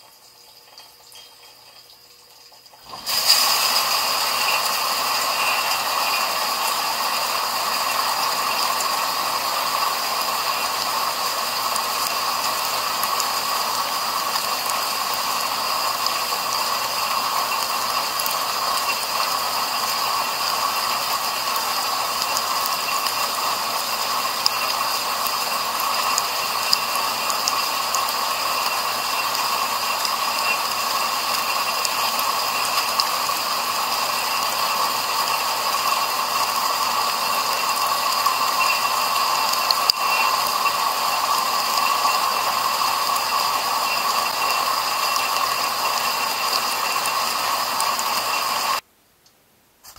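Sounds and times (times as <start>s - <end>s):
water spraying inside dishwasher: 0.0s - 48.8s.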